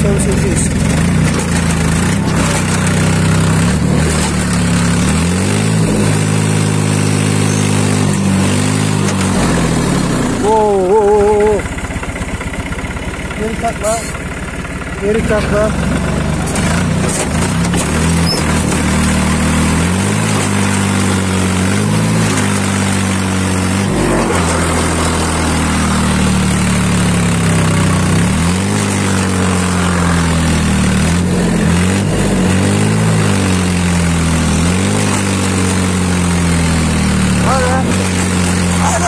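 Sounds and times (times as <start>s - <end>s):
tractor engine running hard: 0.0s - 39.0s.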